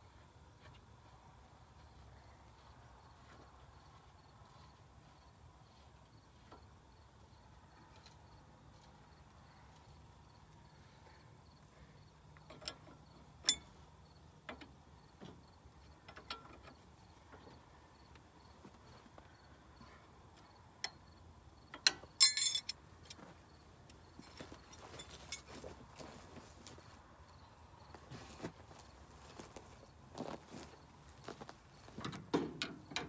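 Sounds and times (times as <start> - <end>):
faint crickets chirping: 0.0 - 33.0.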